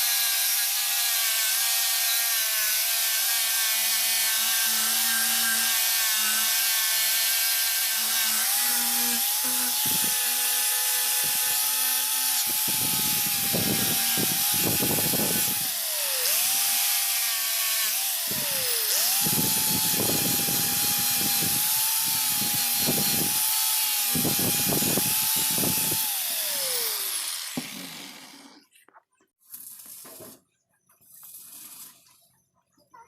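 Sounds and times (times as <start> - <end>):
power tool whining: 0.0 - 28.7
rasping bursts: 0.0 - 28.7.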